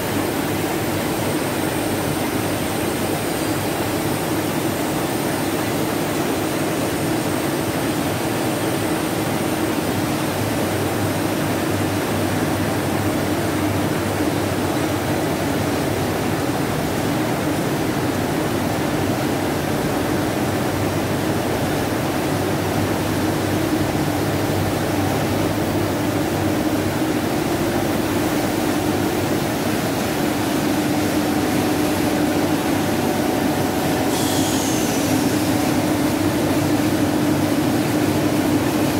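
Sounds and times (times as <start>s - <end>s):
printing press rollers running: 0.0s - 38.9s.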